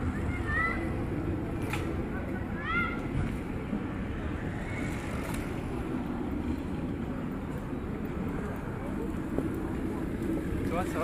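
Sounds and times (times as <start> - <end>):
low rumble of background noise: 0.0 - 11.0.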